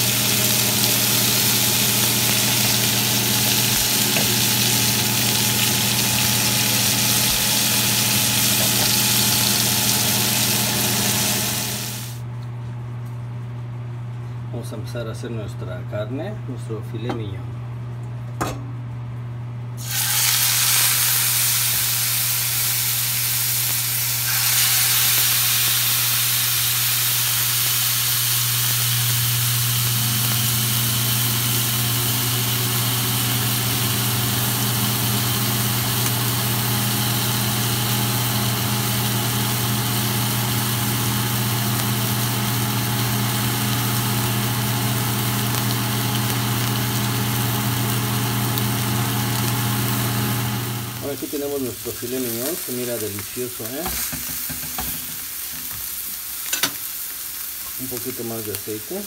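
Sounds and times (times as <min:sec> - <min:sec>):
steaks sizzling in a pan: 0:00.0 - 0:12.2, 0:19.8 - 0:59.0.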